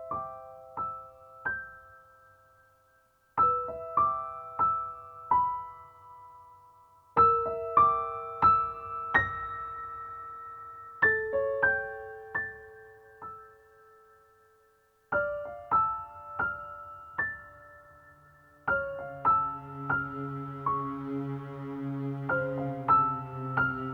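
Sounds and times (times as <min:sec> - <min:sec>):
gentle solo piano music: 0:00.0 - 0:21.1, 0:22.3 - 0:23.9.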